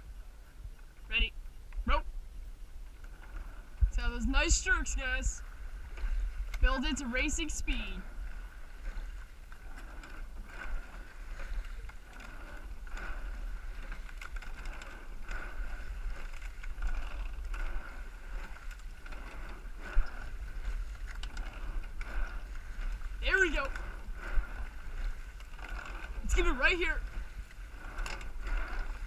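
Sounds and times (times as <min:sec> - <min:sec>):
rowing oar strokes: 0:00.0 - 0:29.0
water and wind rumble: 0:00.0 - 0:29.0.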